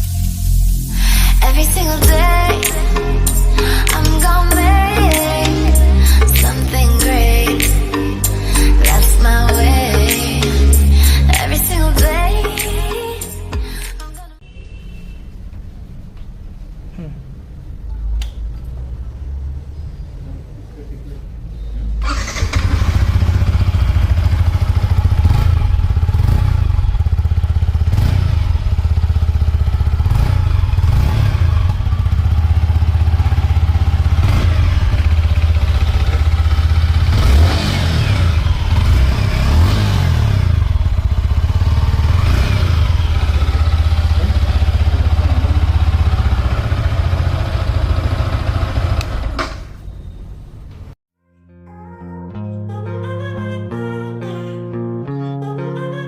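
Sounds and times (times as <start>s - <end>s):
motorcycle engine idling and revving: 0.6s - 13.6s, 16.8s - 51.0s.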